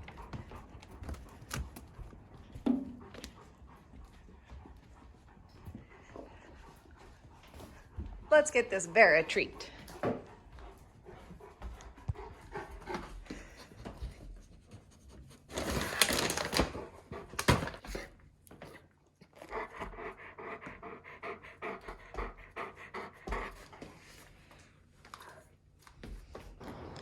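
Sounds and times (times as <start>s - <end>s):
dog panting: 0.0s - 26.2s.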